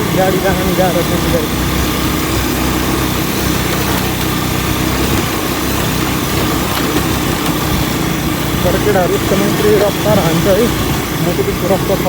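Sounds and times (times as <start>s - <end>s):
constant rushing noise: 0.0s - 12.0s
motorcycle engine running: 0.0s - 12.0s.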